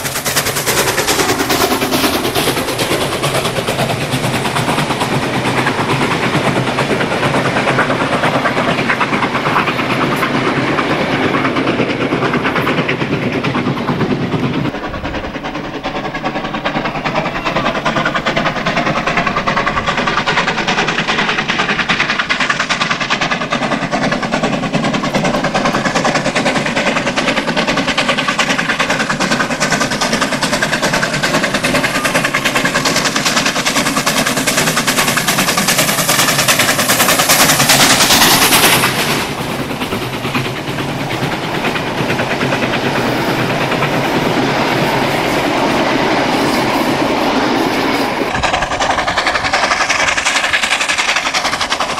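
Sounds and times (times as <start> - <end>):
steam locomotive exhaust beats: 0.0 - 51.9.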